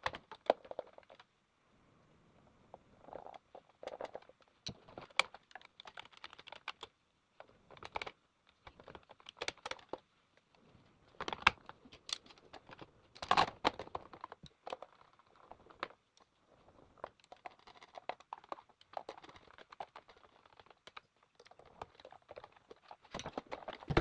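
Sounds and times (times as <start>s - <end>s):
small plastic clicks and knocks: 0.0s - 1.3s, 3.1s - 10.5s, 11.1s - 24.0s.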